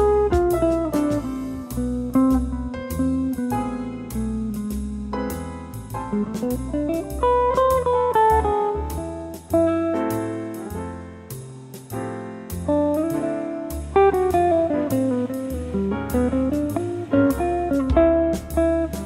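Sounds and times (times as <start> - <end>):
bass line: 0.0 - 19.0
guitar melody: 0.0 - 19.0
steady beat: 0.0 - 19.0.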